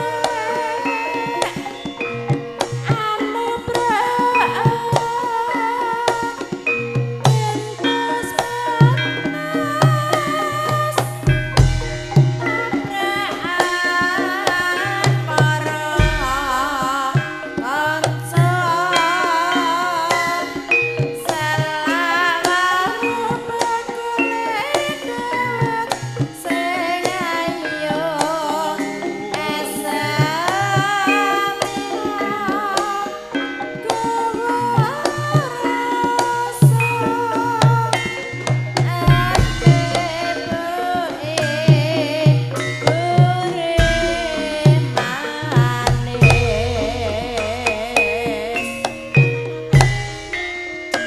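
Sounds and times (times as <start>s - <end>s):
gamelan-style ensemble: 0.0s - 51.0s
hand-drum strokes: 0.0s - 51.0s
woman singing into a microphone: 0.0s - 51.0s.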